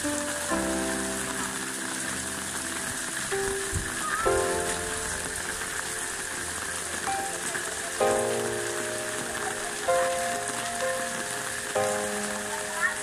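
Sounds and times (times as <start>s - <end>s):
rain pattering on roofs: 0.0s - 13.0s
soft background music: 0.0s - 13.0s
water running off roof: 0.0s - 13.0s.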